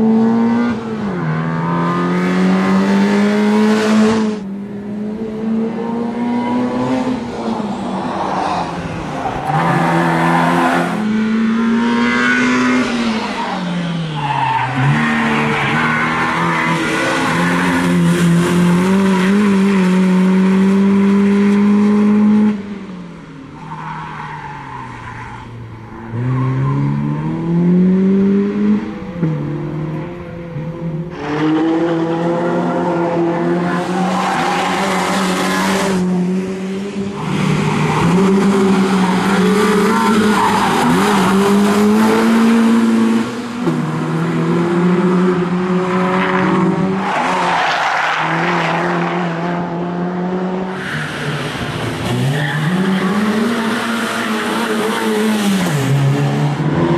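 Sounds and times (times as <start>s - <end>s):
car engine at high revs: 0.0s - 23.4s, 25.7s - 56.9s.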